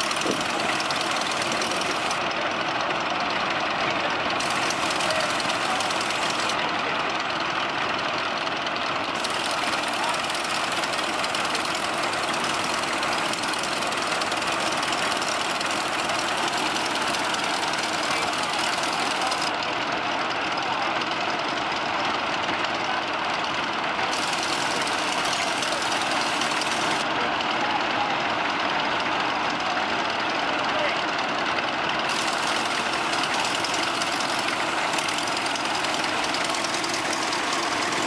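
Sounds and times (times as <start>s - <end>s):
tractor engines idling: 0.0s - 38.0s.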